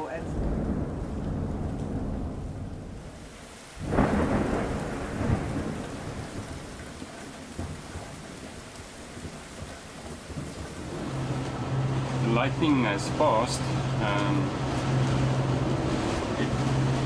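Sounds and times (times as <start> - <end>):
thunder crack and rumble: 0.0 - 17.0.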